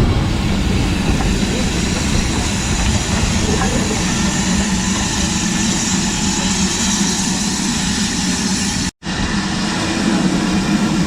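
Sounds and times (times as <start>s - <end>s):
locomotive hissing and humming: 0.0s - 11.0s.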